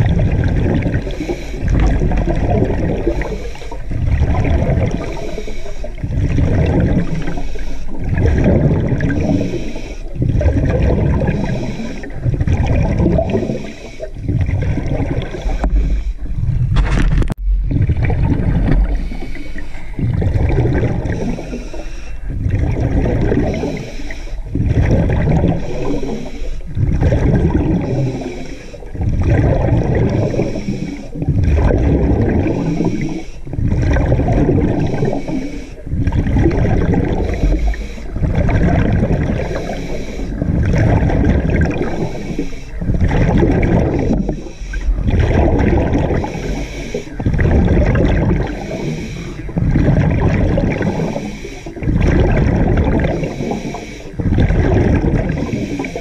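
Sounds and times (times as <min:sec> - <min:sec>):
underwater water rushing: 0:00.0 - 0:56.0.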